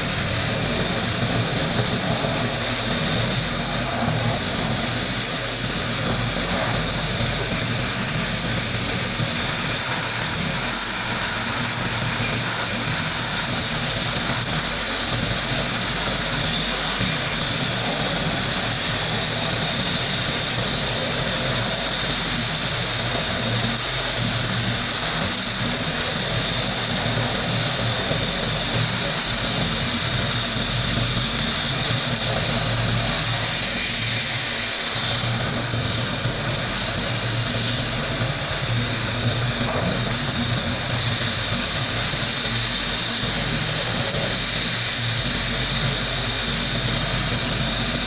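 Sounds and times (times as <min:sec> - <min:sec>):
sandblasting gun hissing: 0:00.0 - 0:48.0.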